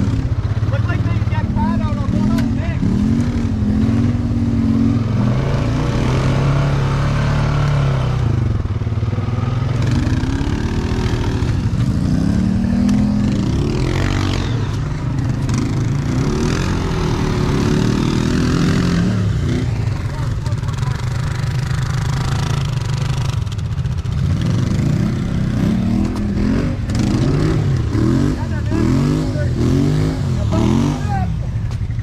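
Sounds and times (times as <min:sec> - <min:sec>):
quad bike engine revving: 0:00.0 - 0:32.0.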